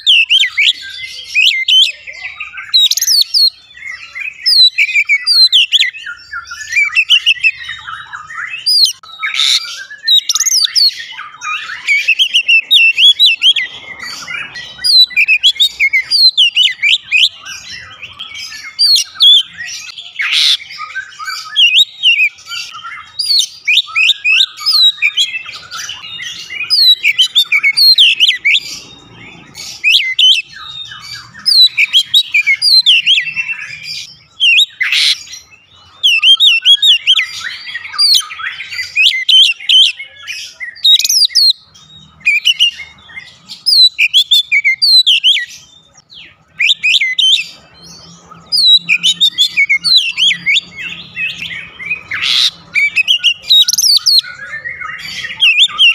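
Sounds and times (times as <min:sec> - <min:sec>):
bird singing whistled phrases: 0:00.0 - 0:55.9.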